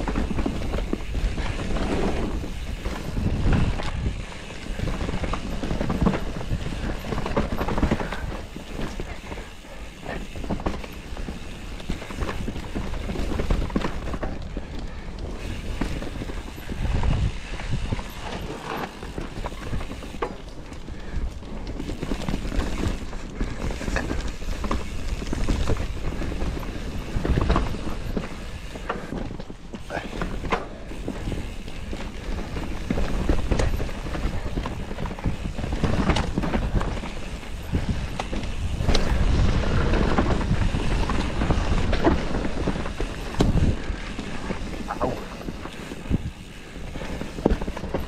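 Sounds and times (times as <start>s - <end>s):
bike rattling and knocking: 0.0s - 48.0s
bike tyres on loose dirt: 0.0s - 48.0s.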